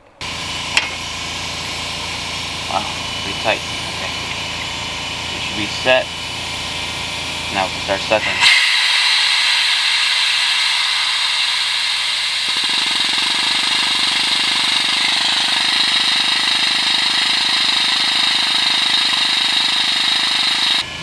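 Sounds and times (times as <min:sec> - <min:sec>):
compressed air hissing: 0:00.2 - 0:20.8.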